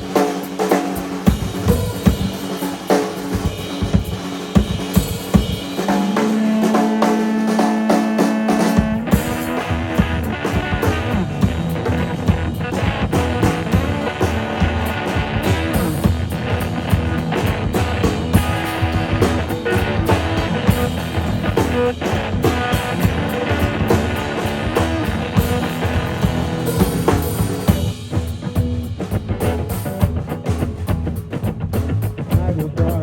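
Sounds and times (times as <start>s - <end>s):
guitar: 0.0s - 33.0s
live band playing: 0.0s - 33.0s.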